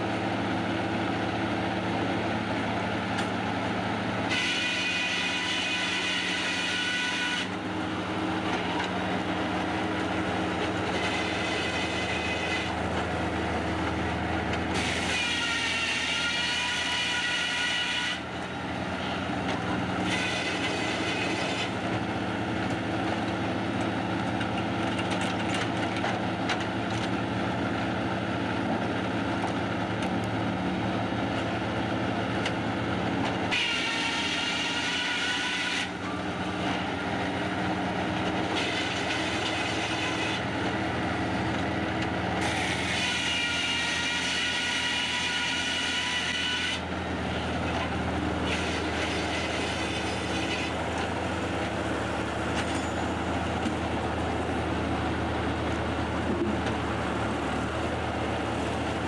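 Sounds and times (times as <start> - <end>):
circular saw cutting log: 0.0 - 27.0, 31.3 - 59.0
hum of mill machinery: 0.0 - 59.0.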